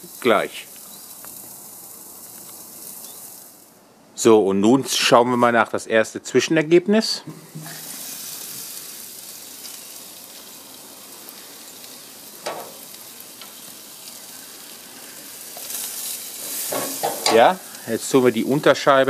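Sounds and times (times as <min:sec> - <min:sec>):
food sizzling on grill: 0:00.0 - 0:04.0, 0:07.3 - 0:19.0.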